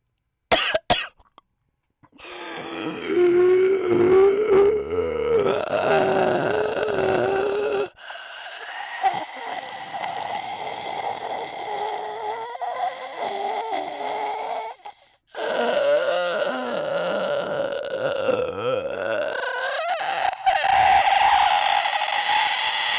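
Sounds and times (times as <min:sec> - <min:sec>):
man imitating snoring: 0:02.2 - 0:22.9.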